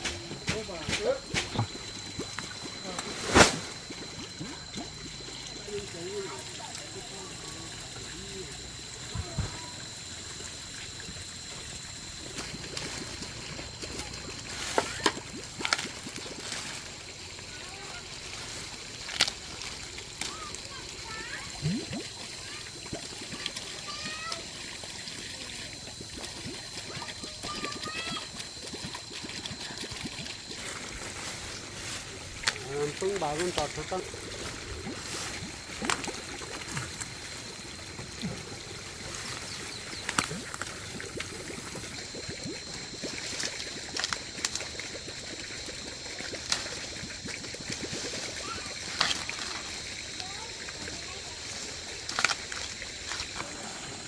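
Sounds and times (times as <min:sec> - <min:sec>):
water trickling and sloshing: 0:00.0 - 0:54.0.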